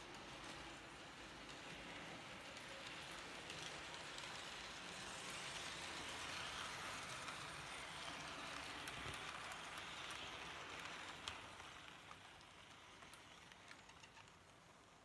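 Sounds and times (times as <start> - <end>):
model train wheels rolling on rails: 0.0 - 15.0.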